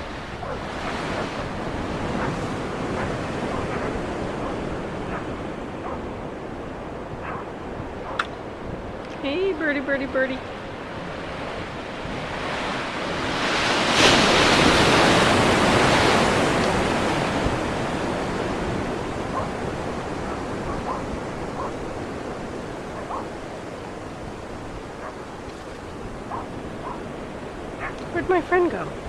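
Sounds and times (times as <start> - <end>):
waves breaking and washing in: 0.0 - 29.0.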